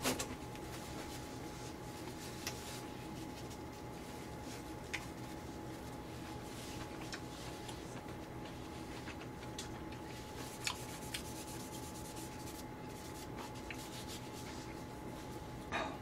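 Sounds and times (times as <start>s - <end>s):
paper tissue rustling: 0.0s - 15.5s
steady low hum: 0.0s - 16.0s.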